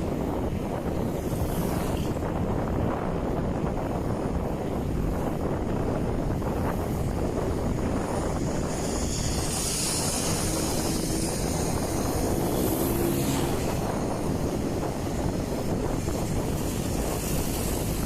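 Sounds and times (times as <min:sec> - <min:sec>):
road noise: 0:00.0 - 0:18.0
wind rumbling on microphone: 0:00.0 - 0:18.0.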